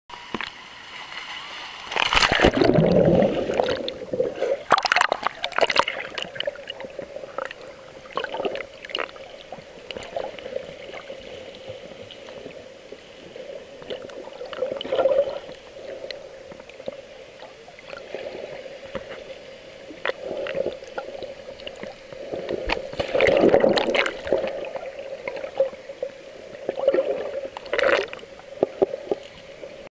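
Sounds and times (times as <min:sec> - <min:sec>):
water splashing: 0:00.2 - 0:29.8
underwater gurgling and bubbling: 0:01.9 - 0:29.9.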